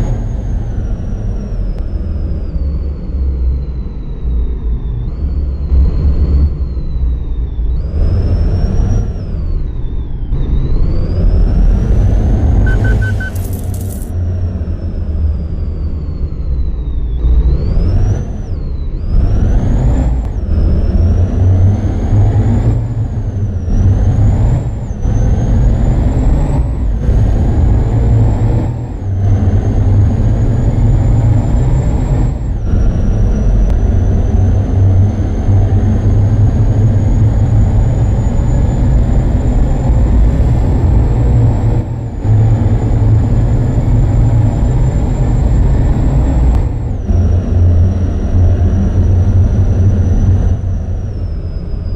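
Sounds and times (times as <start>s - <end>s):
truck engine accelerating through gears: 0.0s - 51.9s.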